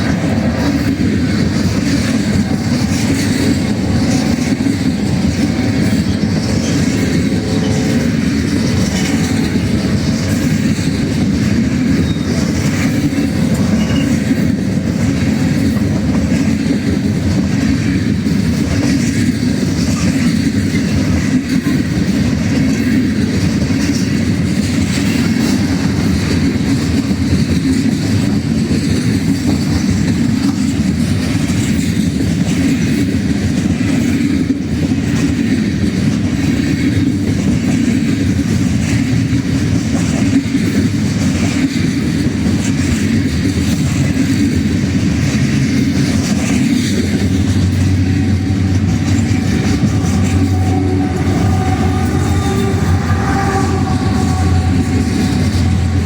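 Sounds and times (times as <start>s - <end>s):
freight train wagons rumbling: 0.0s - 56.0s.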